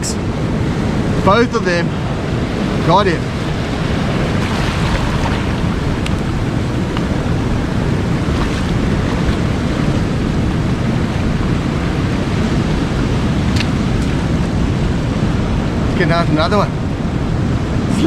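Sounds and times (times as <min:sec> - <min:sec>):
sea surf washing: 0:00.0 - 0:18.0
wind buffeting microphone: 0:00.0 - 0:18.0.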